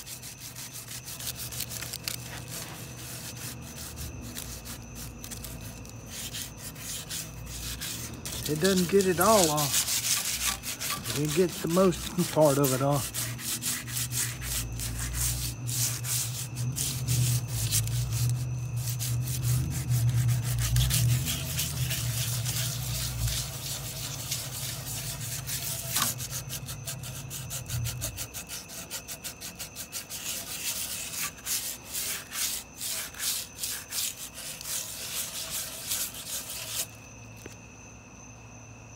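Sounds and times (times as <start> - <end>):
foil scrubbing on chrome: 0.0 - 37.6.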